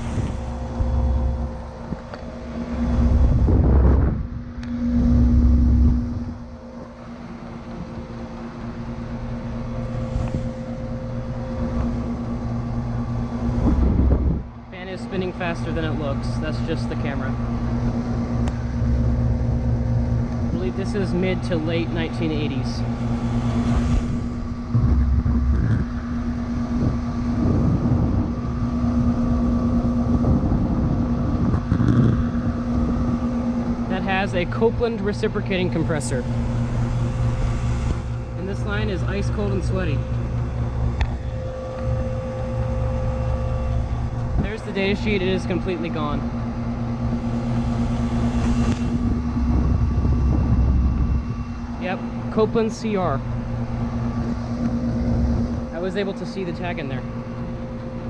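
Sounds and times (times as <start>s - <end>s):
air conditioner humming: 0.0s - 58.0s
wind rumble on microphone: 0.0s - 58.0s.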